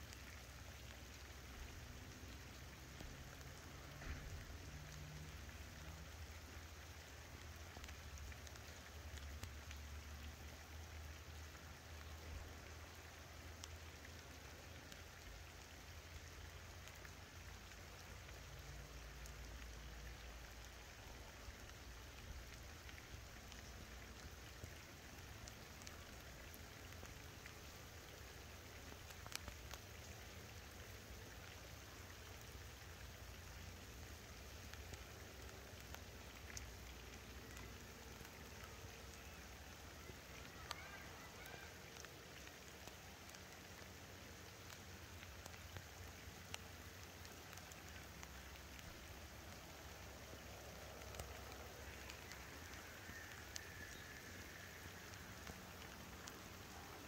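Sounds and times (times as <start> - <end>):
faint steady rain: 0.0 - 57.0.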